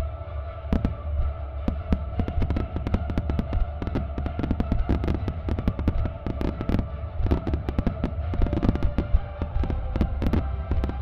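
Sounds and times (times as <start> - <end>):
faint music: 0.0 - 11.0
low rumble: 0.0 - 11.0
fireworks cracking and banging: 0.7 - 1.0, 1.7 - 11.0.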